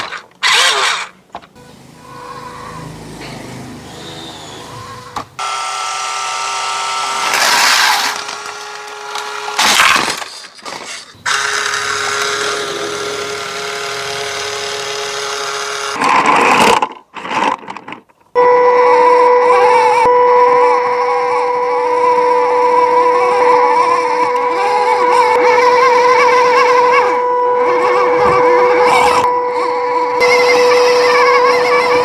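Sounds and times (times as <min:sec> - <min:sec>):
rc truck motor whining: 0:00.0 - 0:16.7, 0:18.4 - 0:32.0.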